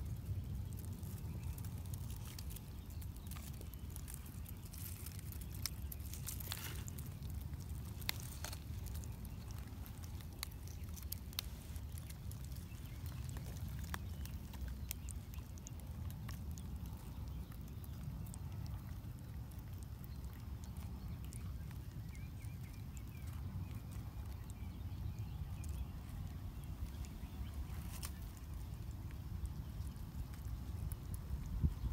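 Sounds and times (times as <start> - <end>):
dry leaves and twigs crackling: 0.0 - 31.9
low outdoor rumble: 0.0 - 31.9.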